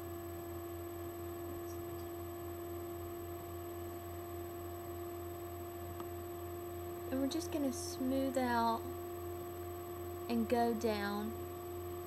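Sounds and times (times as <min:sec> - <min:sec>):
electrical hum with pitched tone: 0:00.0 - 0:12.0.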